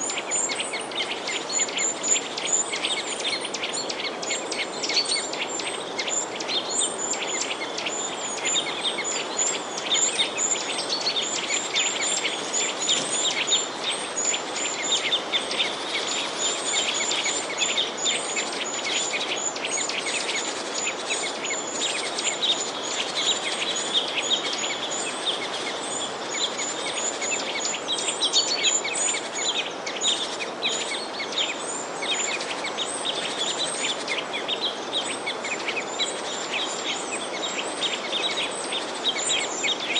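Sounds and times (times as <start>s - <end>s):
small birds chirping: 0.0s - 39.9s
steady background hiss: 0.0s - 39.9s.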